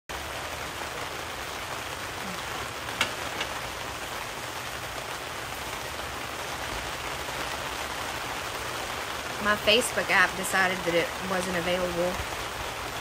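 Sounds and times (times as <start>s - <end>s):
steady rain: 0.1s - 13.0s.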